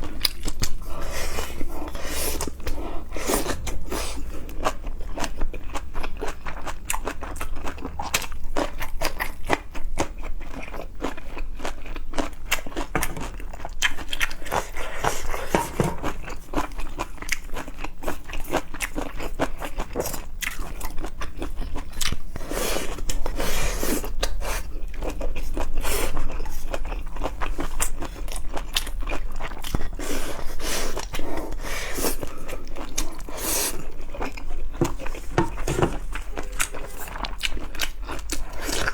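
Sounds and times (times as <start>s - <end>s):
chewing and crunching seafood: 0.0s - 38.9s.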